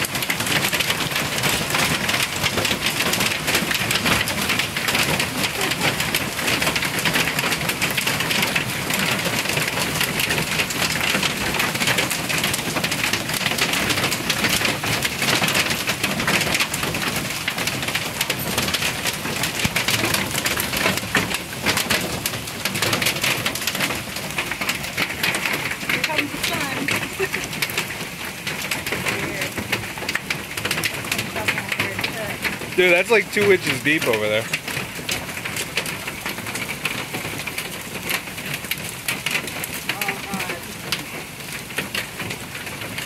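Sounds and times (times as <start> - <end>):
heavy hail falling: 0.0 - 43.0.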